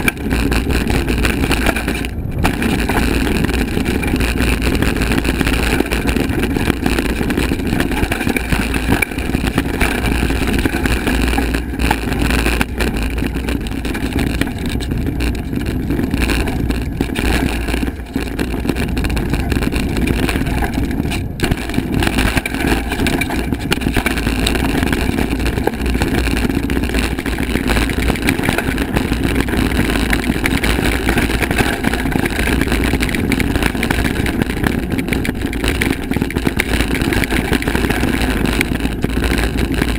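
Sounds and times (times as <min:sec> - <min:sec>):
bike rattling over bumps: 0:00.0 - 0:39.9
tyres rumbling on dirt trail: 0:00.0 - 0:39.9
wind rushing over microphone: 0:00.0 - 0:39.9.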